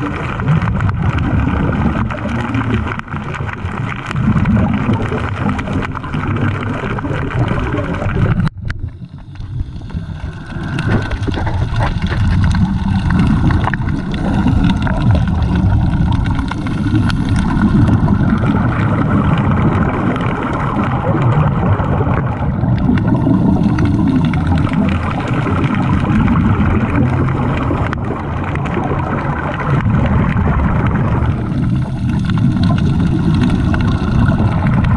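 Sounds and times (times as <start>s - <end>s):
boat engine drone underwater: 0.0s - 34.9s
low underwater rumble: 0.0s - 34.9s.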